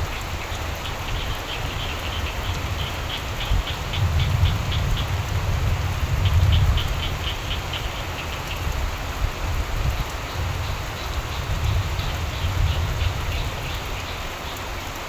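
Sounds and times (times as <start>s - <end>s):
steady rainfall: 0.0s - 15.0s
frogs croaking: 0.1s - 5.4s, 6.1s - 8.8s, 10.2s - 14.9s.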